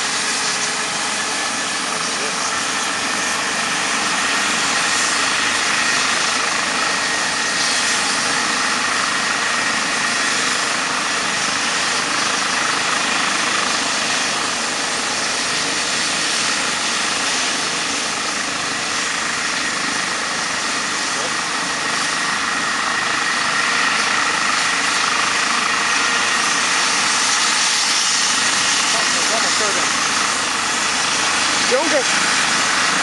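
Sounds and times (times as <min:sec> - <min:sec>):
helicopter rotor rush: 0:00.0 - 0:33.0
helicopter turbine whine: 0:00.0 - 0:33.0.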